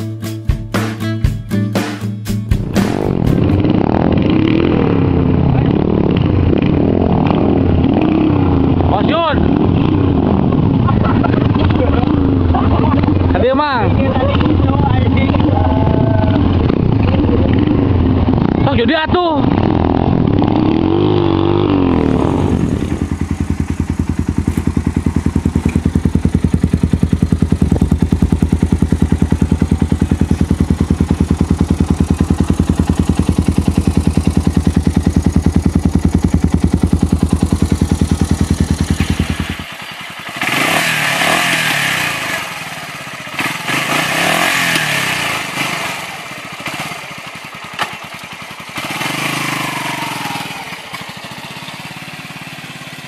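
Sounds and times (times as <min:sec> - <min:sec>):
motorcycle engine idling and revving: 0:02.4 - 0:53.0.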